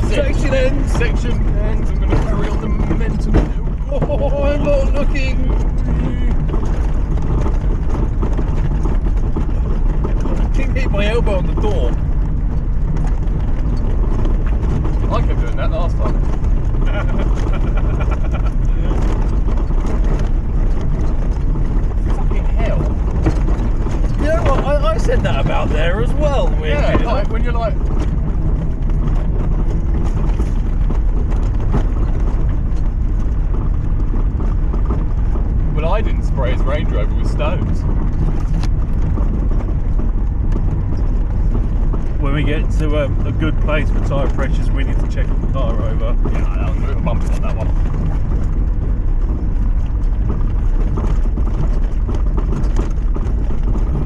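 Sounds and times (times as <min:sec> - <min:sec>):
car engine and road rumble: 0:00.0 - 0:54.0
knocks and rattles: 0:00.0 - 0:54.0.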